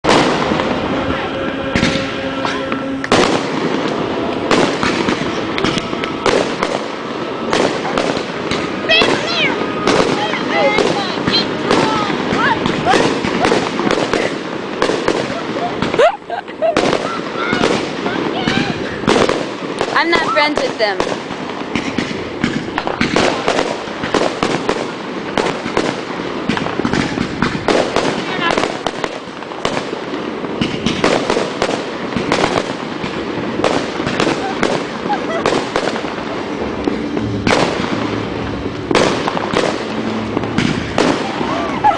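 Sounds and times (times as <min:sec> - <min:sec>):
fireworks crackling and banging: 0:00.0 - 0:41.9.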